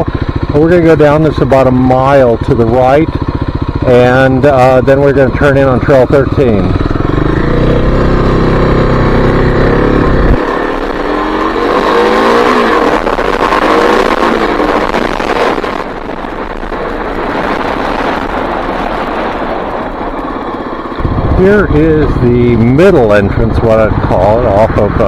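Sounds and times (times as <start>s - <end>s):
heavy low rumble: 0.0s - 25.0s
motorcycle engine accelerating: 0.0s - 25.0s
wind and tyre noise: 0.0s - 25.0s.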